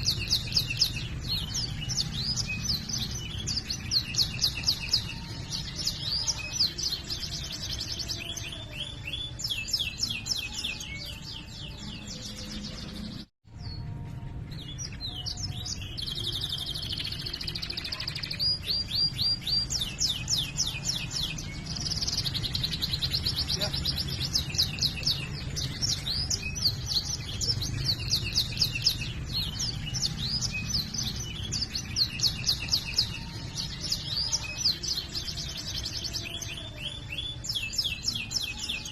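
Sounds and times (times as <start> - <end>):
canary singing trills: 0.0 - 13.9, 14.6 - 38.9.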